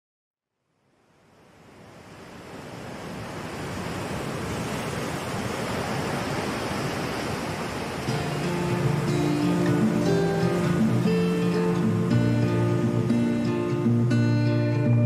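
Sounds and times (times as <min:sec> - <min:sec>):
sea surf rushing: 0:01.2 - 0:15.0.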